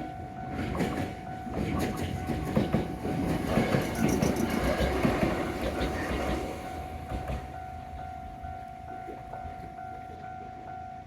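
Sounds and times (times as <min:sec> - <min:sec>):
level crossing warning bell: 0:00.0 - 0:04.8, 0:05.9 - 0:11.0
train rumble: 0:00.0 - 0:11.0.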